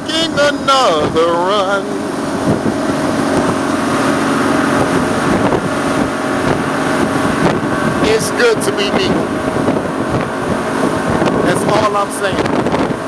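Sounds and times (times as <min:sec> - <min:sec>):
boat engine humming: 0:00.0 - 0:13.0
wind and water rushing: 0:00.0 - 0:13.0.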